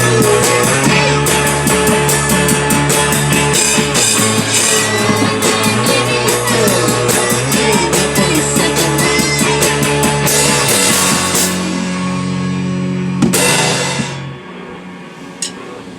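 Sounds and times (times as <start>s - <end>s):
rock band playing live: 0.0s - 15.7s.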